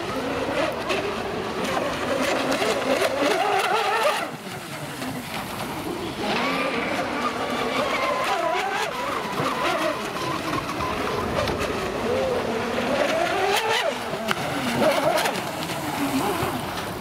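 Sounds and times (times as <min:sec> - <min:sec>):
small boat engines at high revs: 0:00.0 - 0:17.0.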